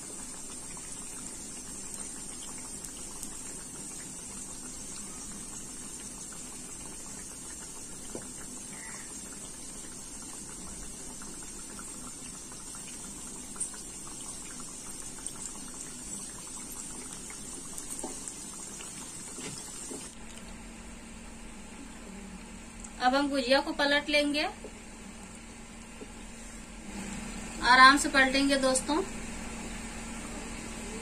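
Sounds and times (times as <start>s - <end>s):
deep-frying sizzle and bubbling: 0.0s - 31.0s.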